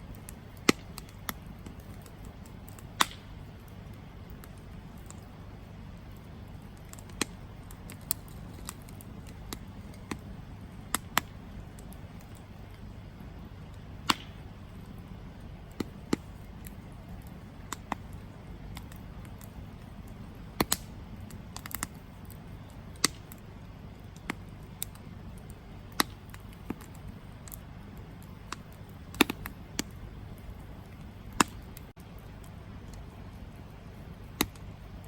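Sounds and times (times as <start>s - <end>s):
campfire crackling: 0.0s - 35.0s
low rumble of fire: 0.0s - 35.0s.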